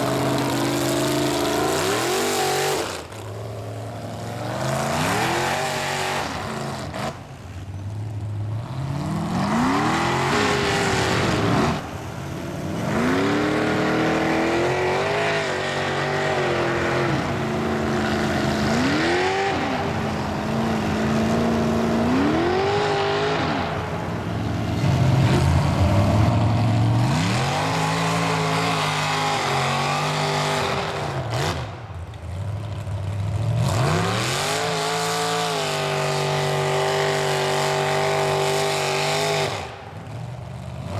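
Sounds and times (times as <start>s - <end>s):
truck engine revving: 0.0s - 7.6s, 8.5s - 40.2s.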